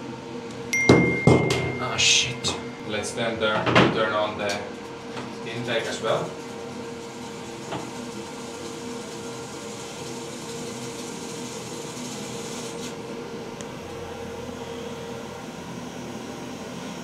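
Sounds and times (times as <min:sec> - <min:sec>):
ventilation fan whirring: 0:00.0 - 0:17.0.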